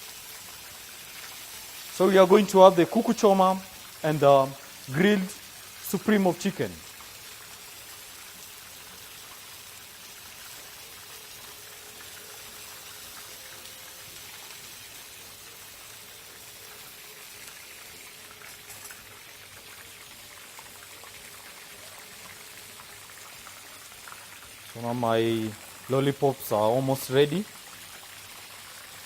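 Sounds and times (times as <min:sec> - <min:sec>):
oil sizzling in deep fryer: 0:00.0 - 0:29.0.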